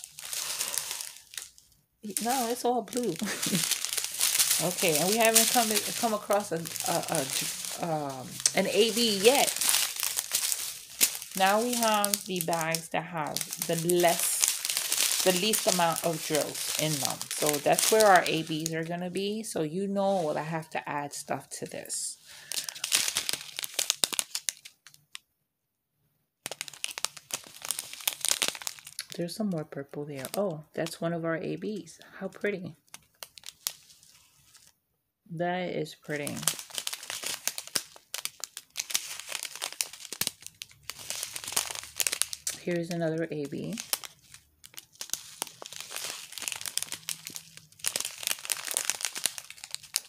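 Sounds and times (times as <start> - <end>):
plastic bags crinkling: 0.0 - 25.2, 26.4 - 29.3, 30.1 - 31.0, 31.7 - 34.8, 36.1 - 50.0.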